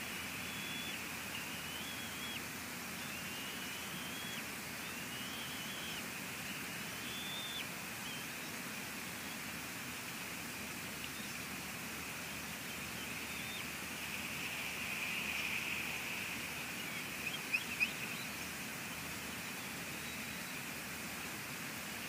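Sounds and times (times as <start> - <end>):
rain and wind hiss: 0.0 - 22.0.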